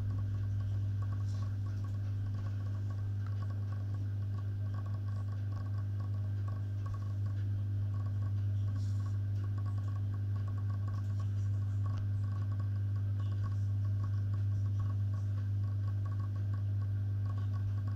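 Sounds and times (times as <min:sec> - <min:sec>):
aquarium pumps humming: 0:00.0 - 0:17.9
faint crackling ticks: 0:00.0 - 0:17.9.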